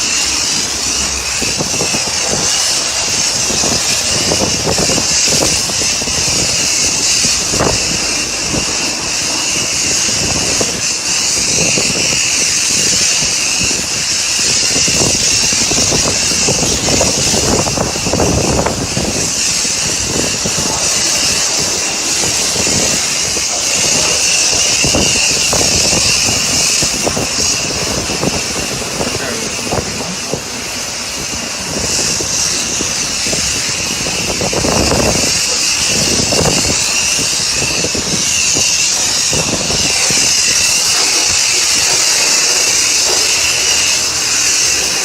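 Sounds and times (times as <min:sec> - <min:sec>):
pressure washer spraying car: 0:00.0 - 0:45.0.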